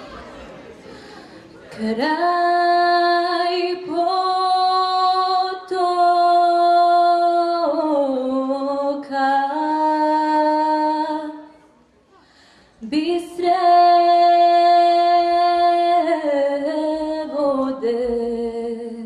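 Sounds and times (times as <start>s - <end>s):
girl singing unaccompanied: 1.8s - 11.7s, 12.8s - 19.0s.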